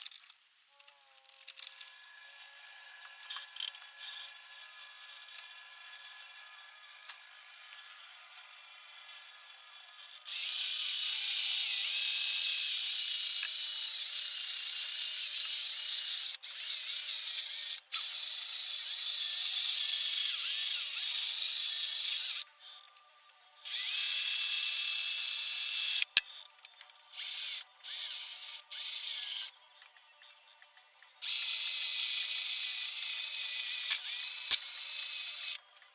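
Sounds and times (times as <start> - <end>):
high-pitched handheld power tool: 0.8 - 23.0, 23.6 - 35.8.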